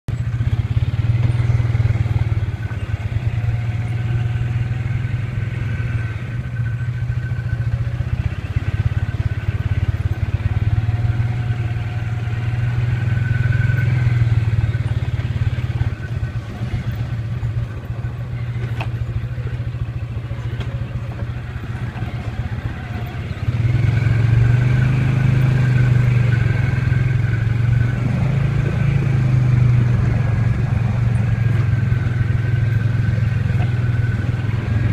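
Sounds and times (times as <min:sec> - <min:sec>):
off-road vehicle engine running: 0:00.1 - 0:34.9.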